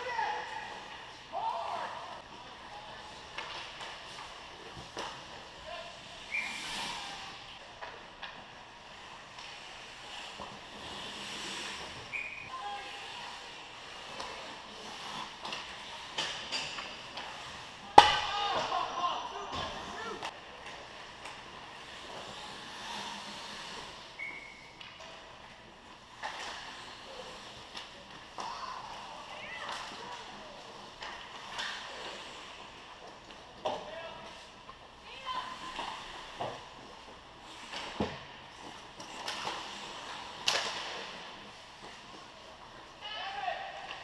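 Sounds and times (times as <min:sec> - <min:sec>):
skates scraping across ice: 0:00.0 - 0:44.0
sticks and puck clacking: 0:02.2 - 0:43.0, 0:43.6 - 0:44.0.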